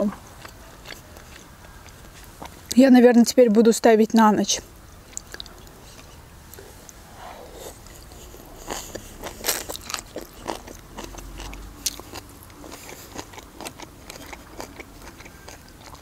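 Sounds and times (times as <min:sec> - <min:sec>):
person chewing crunchy food: 0:00.0 - 0:02.8, 0:05.0 - 0:16.0.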